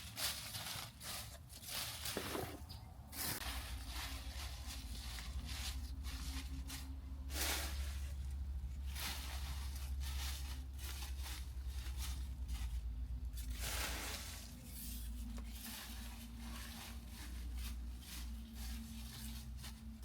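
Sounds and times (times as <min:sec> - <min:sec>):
rustling handling noise: 0:00.0 - 0:20.0.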